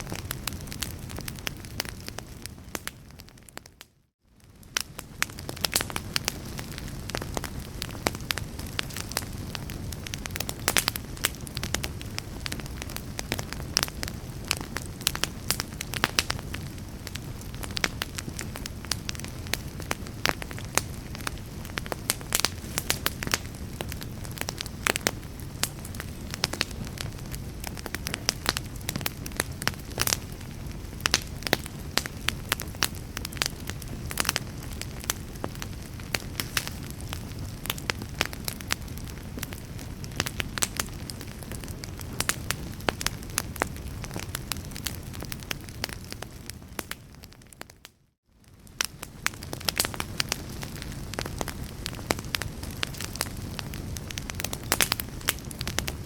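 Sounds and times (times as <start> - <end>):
fireplace fire crackling and popping: 0.0 - 56.0.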